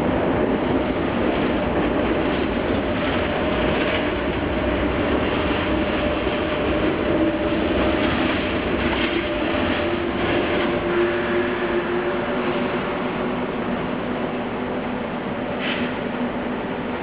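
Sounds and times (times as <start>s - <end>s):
train wheel and traction noise: 0.0s - 17.0s.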